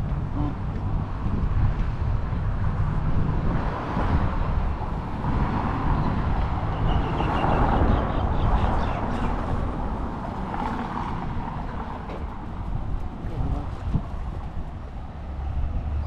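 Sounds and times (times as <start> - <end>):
traffic rumble: 0.0 - 16.0
wind buffeting microphone: 0.0 - 16.0.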